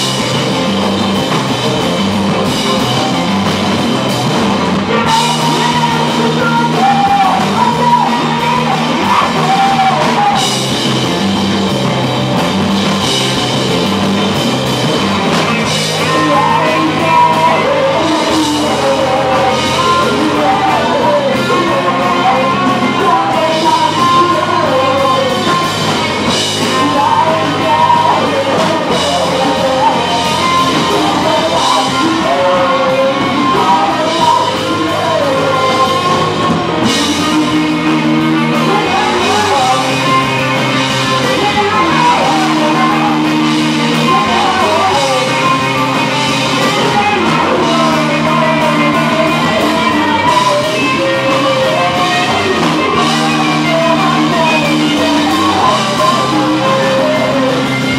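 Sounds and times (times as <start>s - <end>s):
person singing: 0.0s - 57.9s
rock band playing live: 0.0s - 57.9s.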